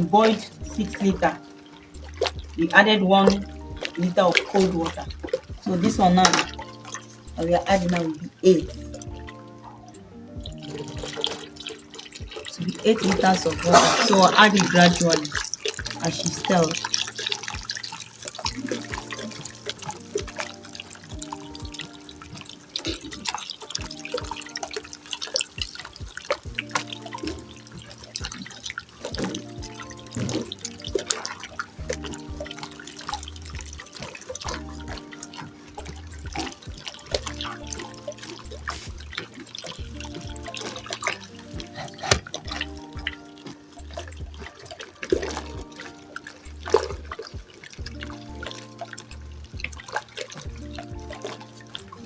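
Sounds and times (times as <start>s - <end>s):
background music with bass line: 0.0s - 52.0s
water splashing and sloshing: 0.0s - 52.0s.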